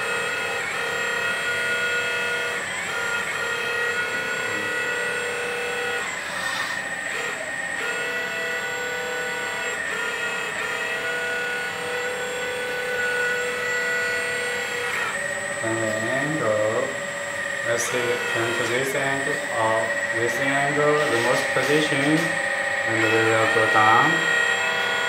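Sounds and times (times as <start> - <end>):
hydraulic pump whining: 0.0 - 25.0.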